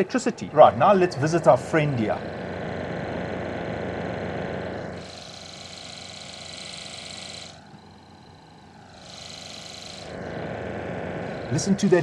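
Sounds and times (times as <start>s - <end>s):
electrical hum with whine and hiss: 0.0s - 12.0s.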